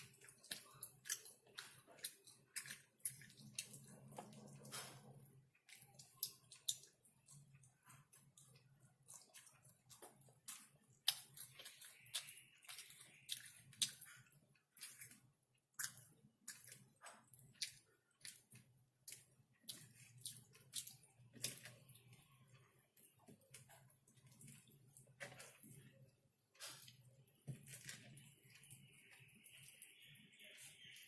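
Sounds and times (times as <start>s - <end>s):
chewing with wet smacking: 0.0s - 31.0s.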